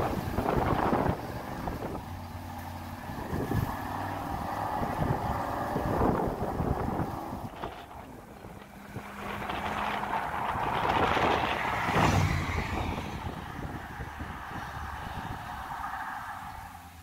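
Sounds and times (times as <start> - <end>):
car engine driving past: 0.0 - 16.9.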